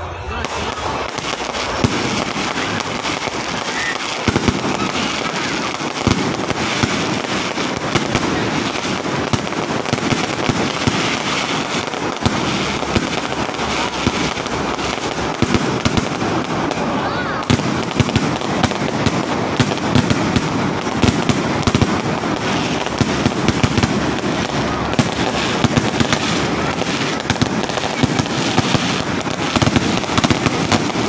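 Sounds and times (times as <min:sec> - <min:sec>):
fireworks crackling and banging: 0:00.0 - 0:31.0
loud fireworks bangs: 0:00.0 - 0:31.0.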